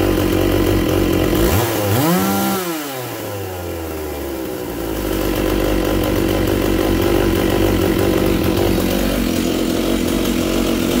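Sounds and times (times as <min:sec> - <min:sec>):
chainsaw engine running: 0:00.0 - 0:11.0.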